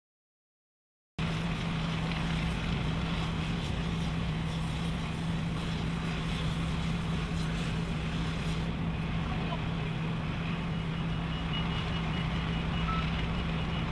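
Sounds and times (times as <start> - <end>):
heavy machinery engine drone: 1.2 - 13.9.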